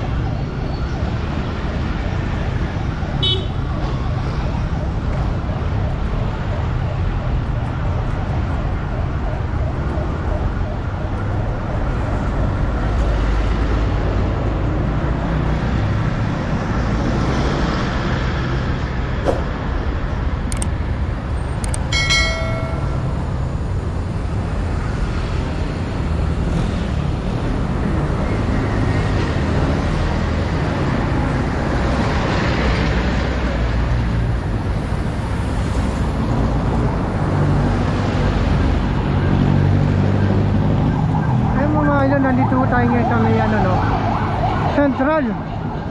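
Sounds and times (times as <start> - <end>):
road traffic engine rumble: 0.0 - 45.9.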